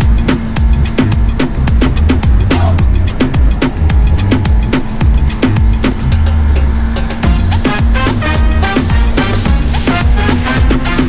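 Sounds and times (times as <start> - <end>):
upbeat dance music: 0.0 - 11.0.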